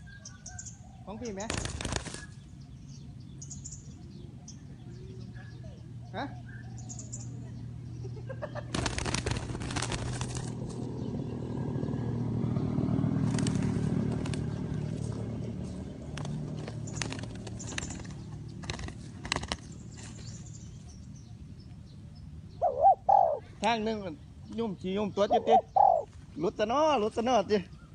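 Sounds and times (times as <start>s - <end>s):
vehicle engine passing: 2.2s - 27.4s.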